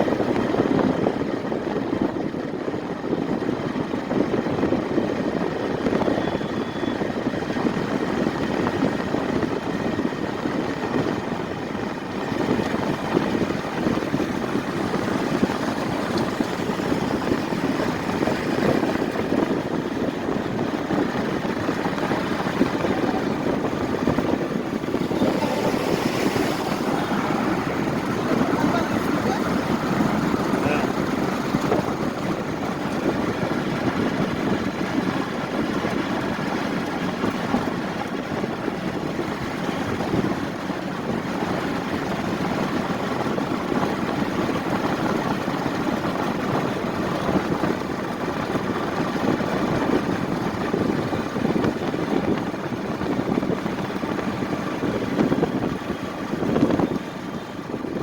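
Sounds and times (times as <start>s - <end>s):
road noise: 0.0s - 58.0s
vehicle engine rumble: 0.0s - 58.0s.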